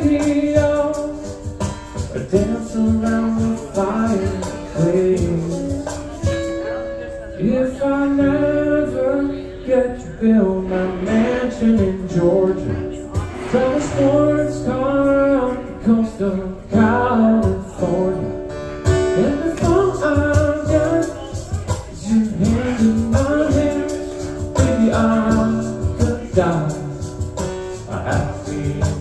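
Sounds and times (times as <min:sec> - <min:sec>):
acoustic guitar strumming: 0:00.0 - 0:29.0
man singing: 0:00.0 - 0:29.0.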